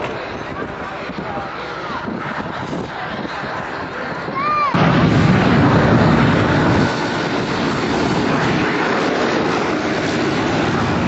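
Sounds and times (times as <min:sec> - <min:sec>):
aircraft engine rushing: 0:00.0 - 0:11.0.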